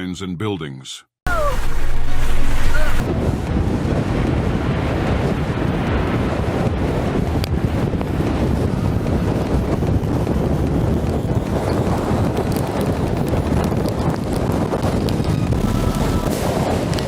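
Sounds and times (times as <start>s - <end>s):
wind blowing across microphone: 1.3s - 17.0s.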